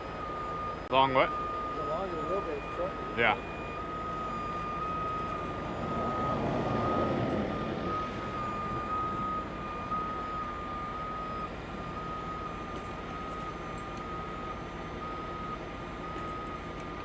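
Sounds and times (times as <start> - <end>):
diesel truck engine running: 0.0 - 17.0
truck backup alarm beeping: 0.0 - 17.0.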